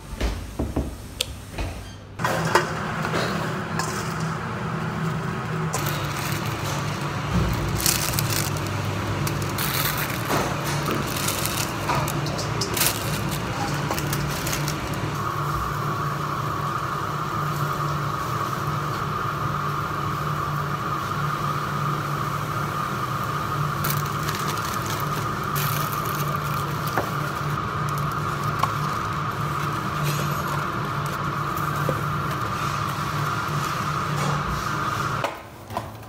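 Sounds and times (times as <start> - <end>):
exhaust hood fans humming: 0.0 - 36.0.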